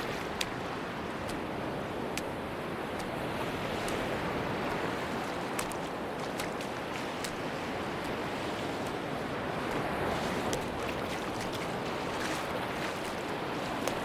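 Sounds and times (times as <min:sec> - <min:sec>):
sea surf breaking on beach: 0:00.0 - 0:14.0.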